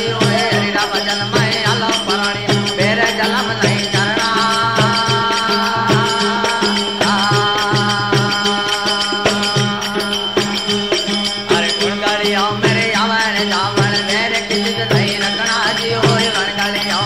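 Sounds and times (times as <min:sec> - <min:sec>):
repeating drum beat: 0:00.0 - 0:17.0
sharp percussion strokes: 0:00.0 - 0:17.0.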